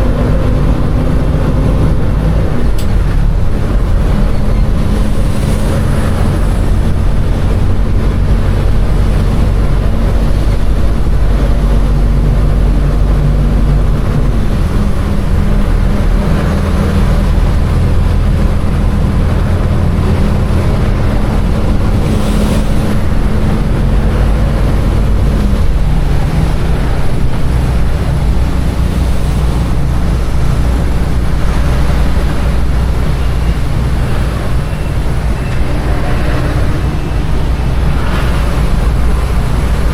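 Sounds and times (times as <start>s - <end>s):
road noise: 0.0s - 39.9s
truck diesel engine humming: 0.0s - 39.9s.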